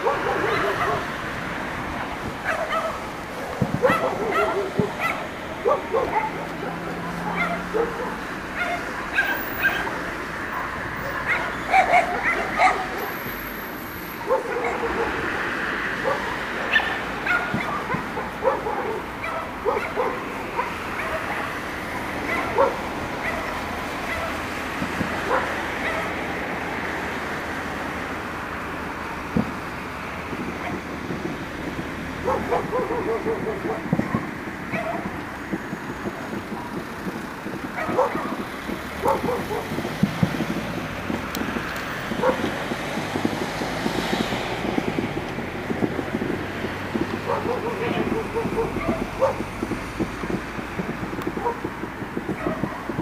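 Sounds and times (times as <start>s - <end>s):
dogs barking: 0.0s - 27.2s, 30.4s - 31.4s, 32.0s - 53.0s
distant fireworks crackling: 0.0s - 53.0s.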